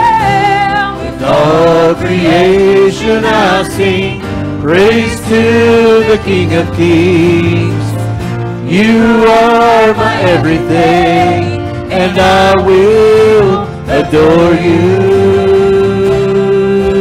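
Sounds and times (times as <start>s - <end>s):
voices singing long notes: 0.0s - 8.0s, 8.6s - 17.0s
acoustic guitars: 0.0s - 17.0s
keyboard playing: 0.0s - 17.0s.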